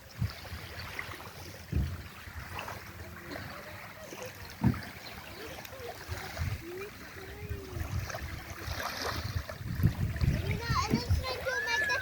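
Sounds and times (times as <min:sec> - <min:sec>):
water washing on beach: 0:00.0 - 0:12.0
wind: 0:00.0 - 0:12.0.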